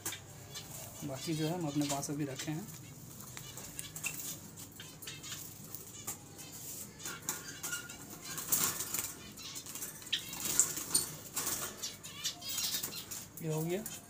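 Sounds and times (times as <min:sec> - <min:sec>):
birds fluttering wings: 0:00.1 - 0:13.9.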